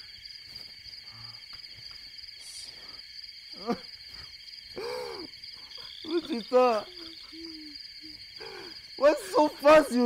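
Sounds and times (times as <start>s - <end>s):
insect chorus chirring: 0.0s - 10.0s.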